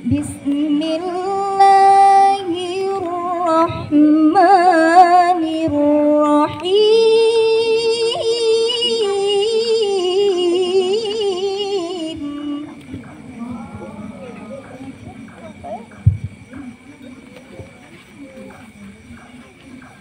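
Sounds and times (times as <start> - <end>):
woman chanting melodic recitation: 0.0 - 16.6.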